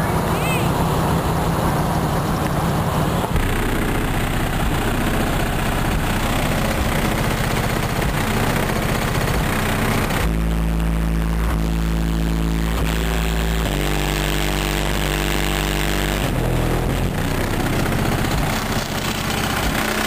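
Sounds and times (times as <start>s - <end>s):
car subwoofers playing bass-heavy music: 0.0s - 20.0s.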